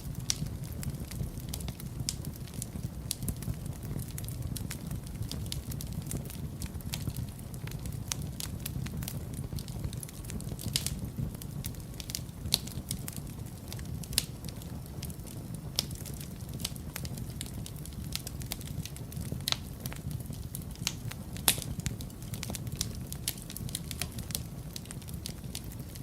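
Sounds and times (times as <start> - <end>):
fire crackling and popping: 0.0 - 26.0
low rumble of flames: 0.0 - 26.0.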